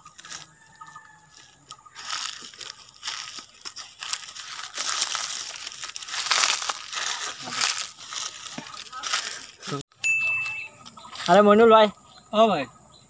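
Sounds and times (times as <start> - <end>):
footsteps in dry leaves: 0.0 - 9.8, 10.4 - 11.7.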